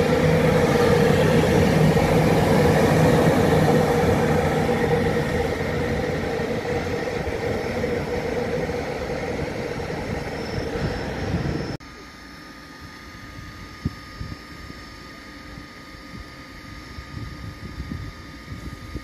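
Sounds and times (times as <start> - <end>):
train mechanical hum: 0.0 - 19.0.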